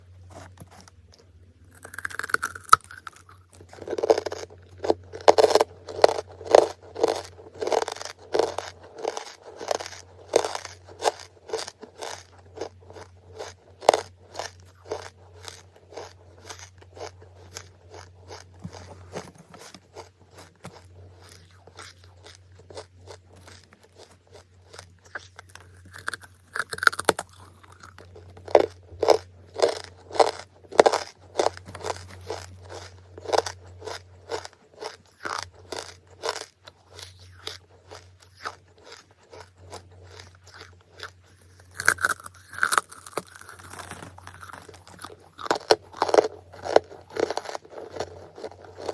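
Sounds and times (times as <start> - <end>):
crunchy chewing of charcoal: 0.0 - 48.9
faint low hum: 0.0 - 48.9.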